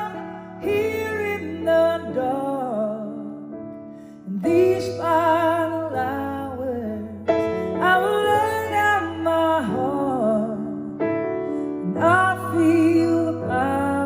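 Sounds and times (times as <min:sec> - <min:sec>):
woman singing a slow ballad: 0:00.0 - 0:03.5, 0:04.2 - 0:11.0, 0:11.6 - 0:14.0
piano accompaniment: 0:00.0 - 0:14.0.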